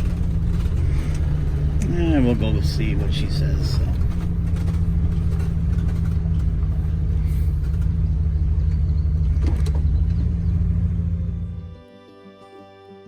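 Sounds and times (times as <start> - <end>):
motorhome engine humming: 0.0 - 13.0.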